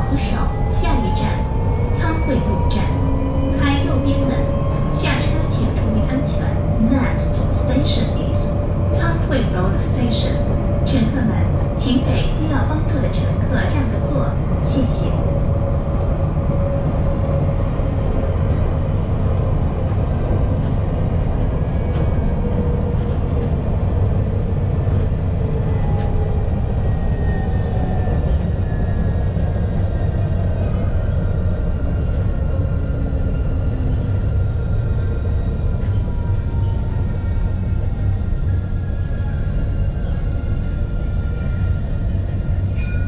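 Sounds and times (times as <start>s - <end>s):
tram wheels rumbling on rail: 0.0s - 43.0s.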